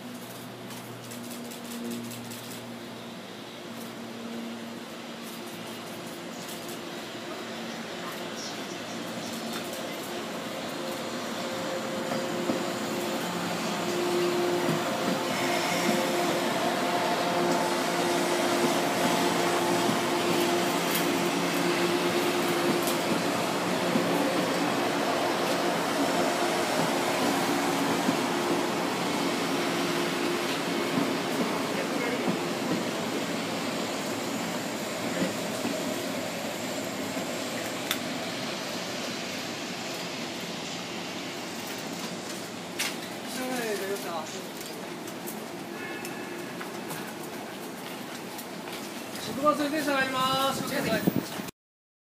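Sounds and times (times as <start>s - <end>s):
train whirring drone: 0.0s - 51.5s.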